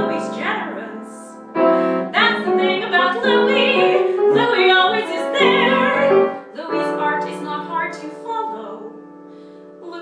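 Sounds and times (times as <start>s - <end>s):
soprano singing: 0.0s - 9.2s, 9.8s - 10.0s
piano accompaniment: 0.0s - 10.0s.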